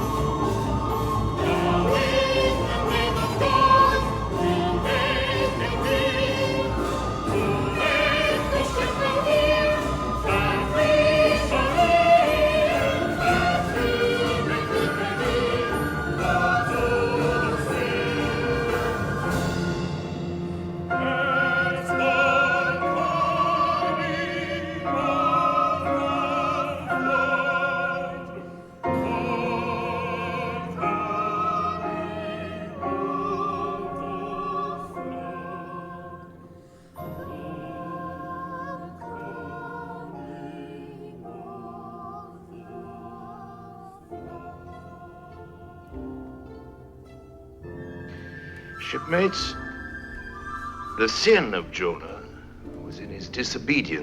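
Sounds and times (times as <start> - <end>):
classical singing with vibrato: 0.0 - 54.0
orchestral accompaniment: 0.0 - 54.0.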